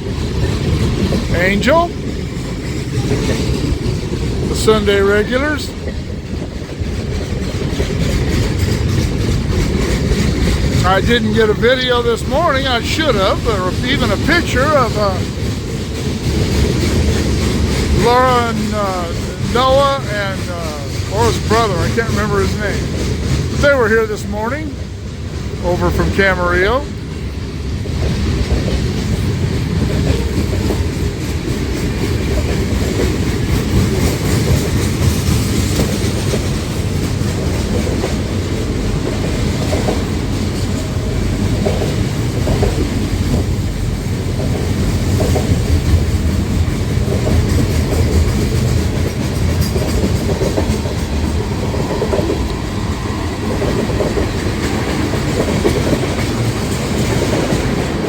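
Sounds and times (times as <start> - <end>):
freight train rumbling past: 0.0 - 58.0
wheels clicking over rail joints: 0.0 - 58.0.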